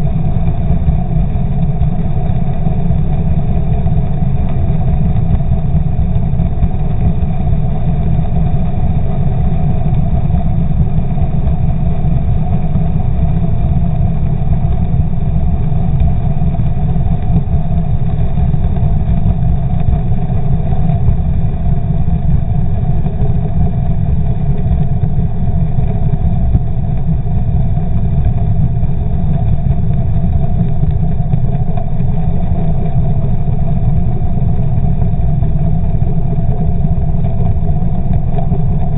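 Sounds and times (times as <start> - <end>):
outboard motor underwater rumble: 0.0 - 38.9.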